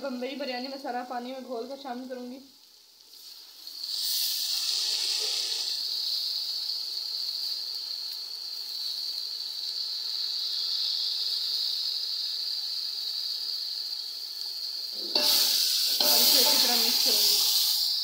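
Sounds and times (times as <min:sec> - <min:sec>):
liquid sizzling in hot oil: 0:00.0 - 0:18.0.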